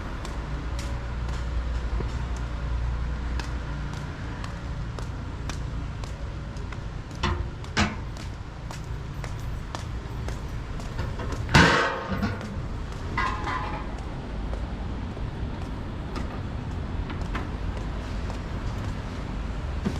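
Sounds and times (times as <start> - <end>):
footsteps: 0.0 - 19.9.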